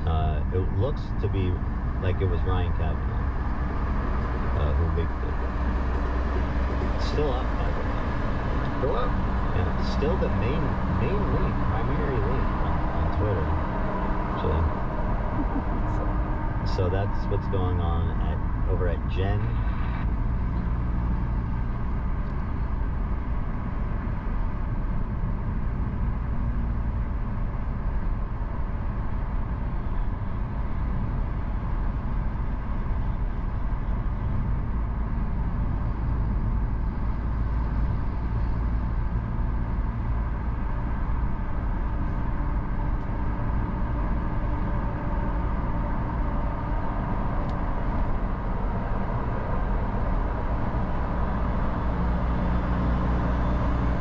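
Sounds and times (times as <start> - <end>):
car road noise: 0.0 - 54.0.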